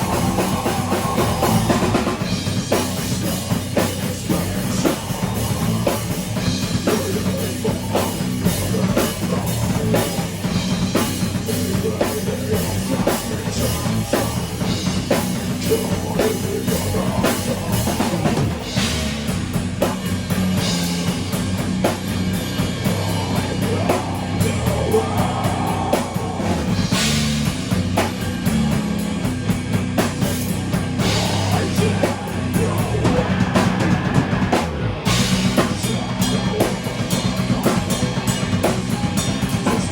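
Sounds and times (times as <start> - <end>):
drum kit beats: 0.0 - 39.9
rock band playing: 0.0 - 39.9.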